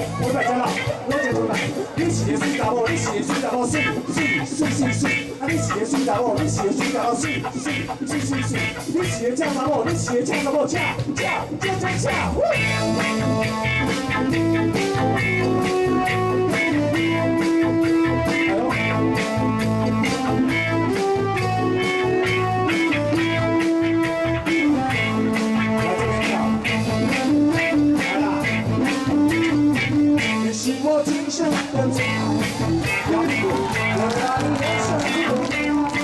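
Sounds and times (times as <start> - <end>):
guitar melody: 0.0 - 10.3, 12.5 - 30.6, 31.9 - 36.0
bass: 0.0 - 36.0
steady drum beat: 0.0 - 36.0.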